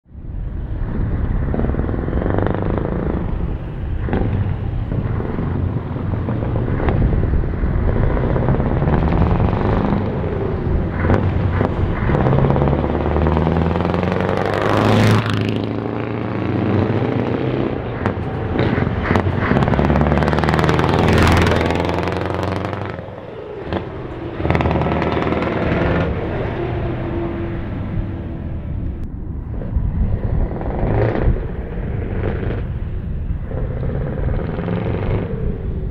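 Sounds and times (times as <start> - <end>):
truck diesel engines revving: 0.2 - 35.9.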